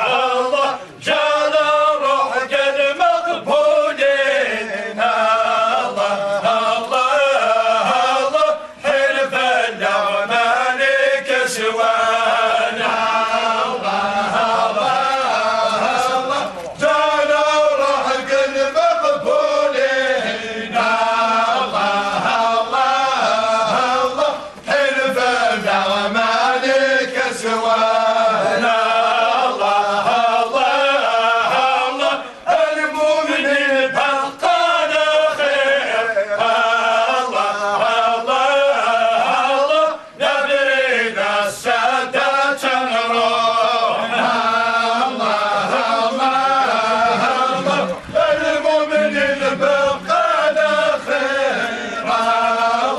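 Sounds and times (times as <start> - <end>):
men chanting in unison: 0.0 - 52.9.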